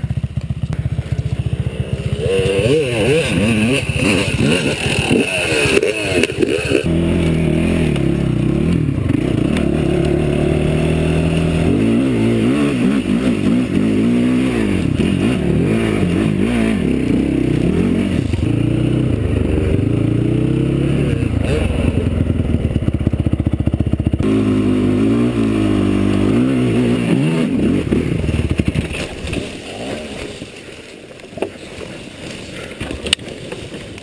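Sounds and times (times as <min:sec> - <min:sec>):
quad engine revving: 0:00.7 - 0:30.3
other engine revving: 0:00.7 - 0:30.4.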